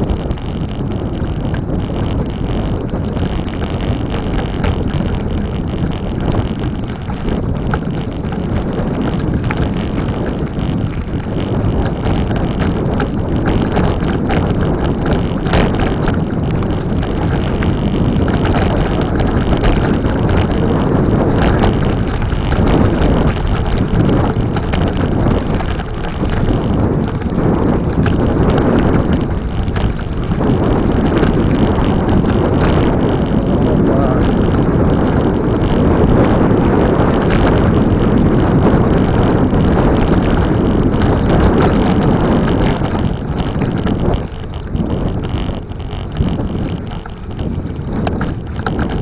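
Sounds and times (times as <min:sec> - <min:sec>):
wind buffeting microphone: 0:00.0 - 0:49.0
scattered clicks: 0:00.1 - 0:49.0.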